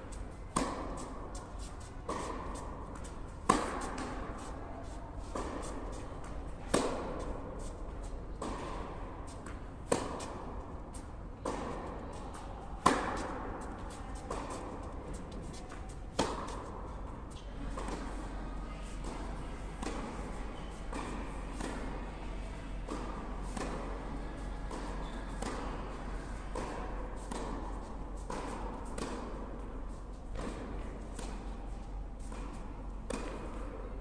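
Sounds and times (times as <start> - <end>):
tennis ball struck and bouncing: 0.1 - 18.2, 19.8 - 22.0, 22.8 - 34.0.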